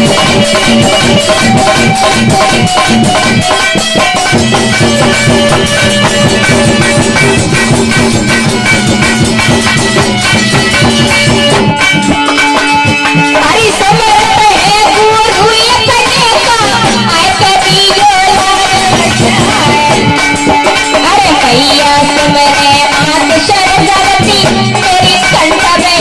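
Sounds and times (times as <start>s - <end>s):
sustained instrumental melody: 0.0s - 22.2s
steady drum beat: 0.0s - 26.0s.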